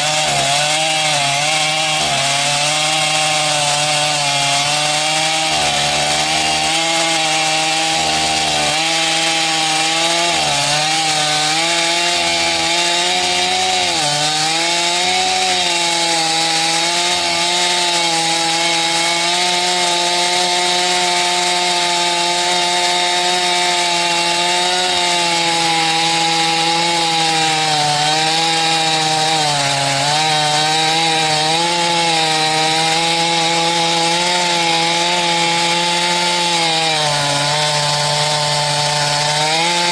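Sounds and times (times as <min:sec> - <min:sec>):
chainsaw ripping log: 0:00.0 - 0:39.9.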